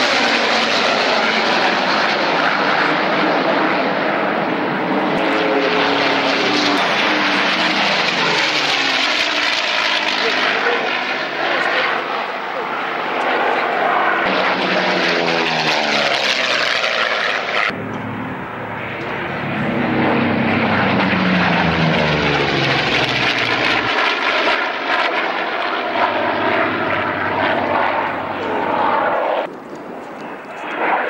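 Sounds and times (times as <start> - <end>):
propeller planes flying past: 0.0 - 31.0.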